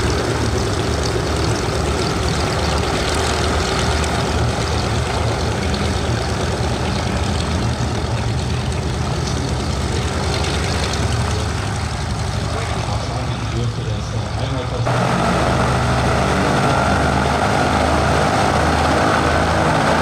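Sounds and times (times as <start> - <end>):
propeller plane engines rumbling: 0.0 - 20.0.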